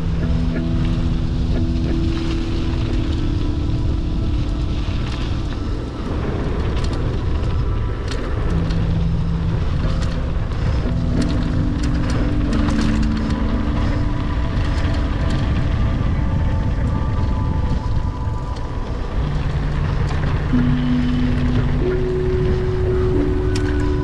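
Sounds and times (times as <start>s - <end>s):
faint held music notes: 0.0s - 24.0s
wind rushing over microphone: 0.0s - 24.0s.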